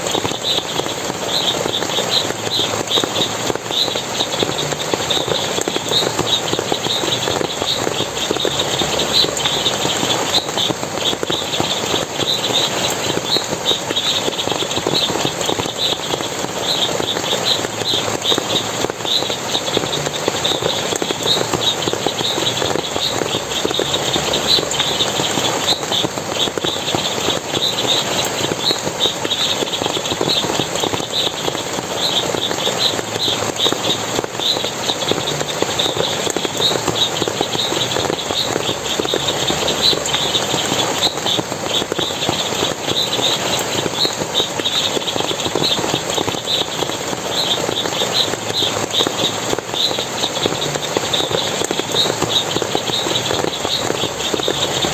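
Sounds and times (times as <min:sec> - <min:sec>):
high rapid chirping: 0:00.0 - 0:54.9
water splashing and running: 0:00.0 - 0:54.9.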